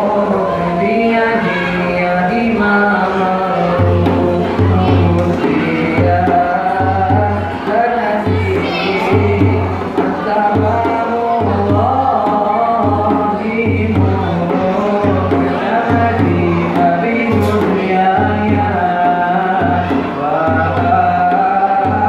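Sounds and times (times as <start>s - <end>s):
men singing: 0.0s - 22.0s
frame drum beating: 3.8s - 22.0s.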